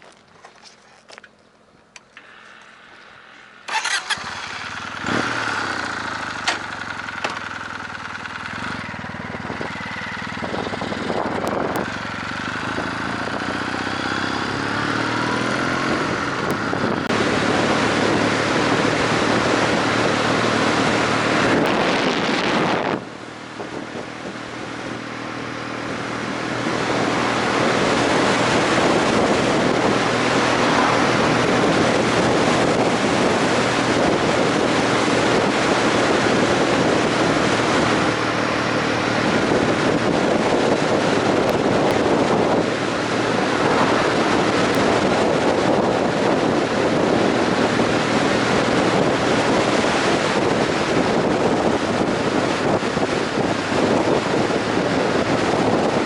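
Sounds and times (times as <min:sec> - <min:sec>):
motorcycle engine running: 0:02.0 - 0:56.0.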